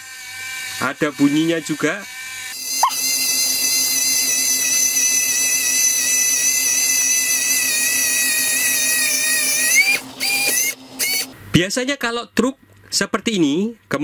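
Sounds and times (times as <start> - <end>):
toy truck electric whine: 0.0 - 11.3.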